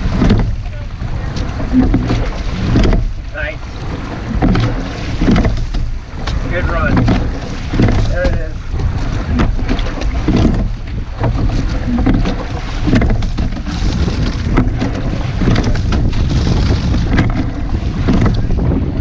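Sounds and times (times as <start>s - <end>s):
oar knocks: 0.0s - 19.0s
water rushing along hull: 0.0s - 19.0s
wind buffeting microphone: 0.0s - 19.0s.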